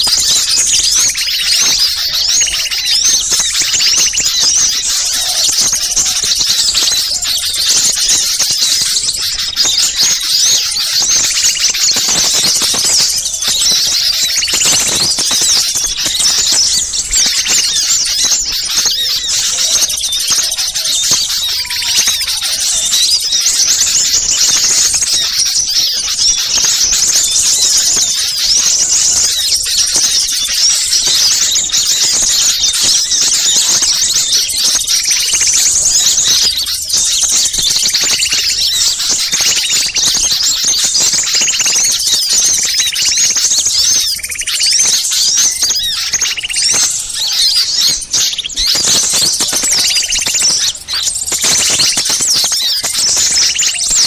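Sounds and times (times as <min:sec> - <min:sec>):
small birds chirping and twittering: 0:00.0 - 0:54.0.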